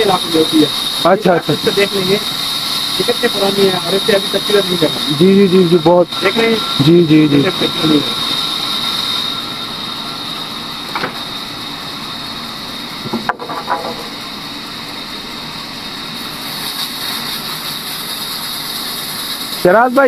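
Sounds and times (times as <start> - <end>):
band saw humming with whine: 0.0 - 20.0.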